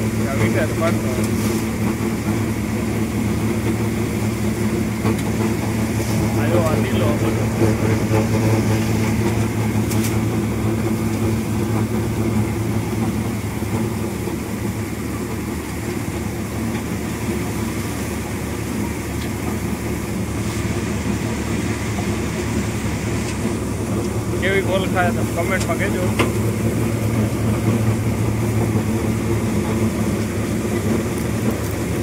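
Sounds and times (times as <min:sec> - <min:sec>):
threshing drum churning: 0:00.0 - 0:32.0
tractor engine drone: 0:00.0 - 0:32.0.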